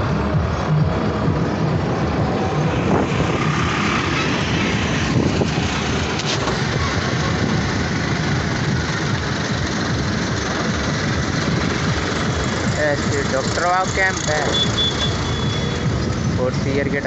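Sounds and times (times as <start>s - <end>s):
traffic roar: 0.0s - 17.0s.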